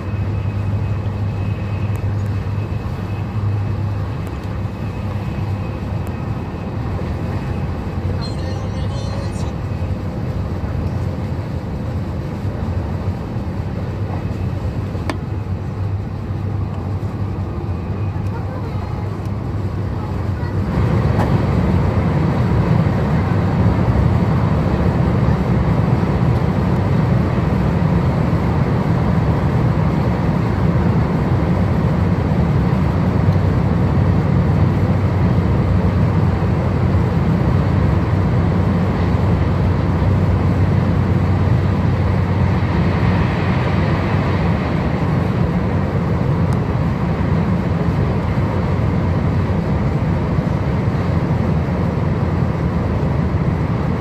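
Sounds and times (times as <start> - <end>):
train low rumble from inside: 0.0 - 54.0.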